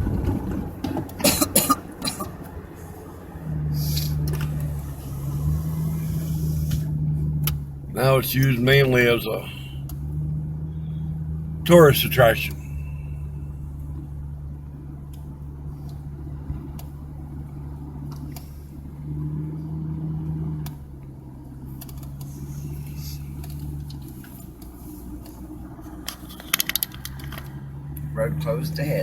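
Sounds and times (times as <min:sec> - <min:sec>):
car engine and road hum: 0:00.0 - 0:29.0.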